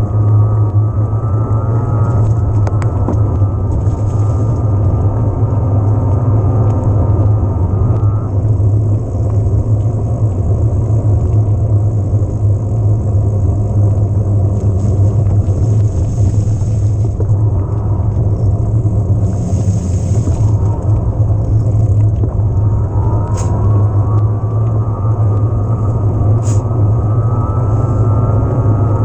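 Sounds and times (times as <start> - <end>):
faint electric motor whine: 0.0 - 29.0
wind buffeting microphone: 0.0 - 29.0.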